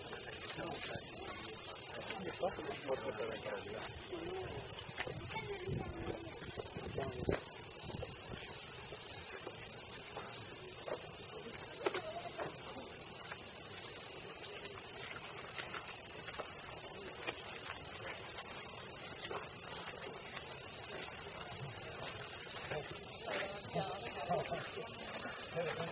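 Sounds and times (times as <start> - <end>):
cicadas buzzing: 0.0 - 25.9
light footsteps: 0.1 - 25.9.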